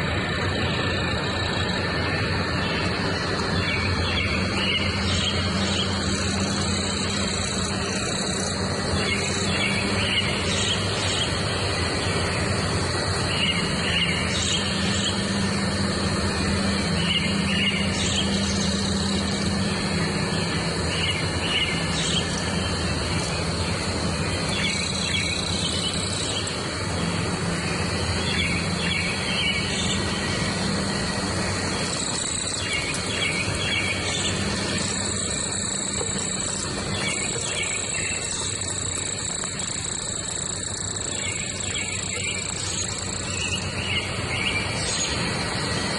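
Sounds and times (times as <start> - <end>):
birds singing: 0.0 - 45.9
insect drone: 0.0 - 45.9
low steady hum: 0.0 - 45.9.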